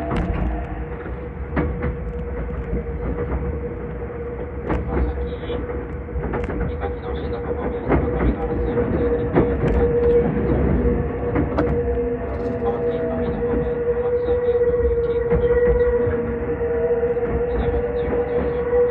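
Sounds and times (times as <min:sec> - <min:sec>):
train rumble and hum: 0:00.0 - 0:18.9
wheels clicking over rail joints: 0:00.0 - 0:18.9.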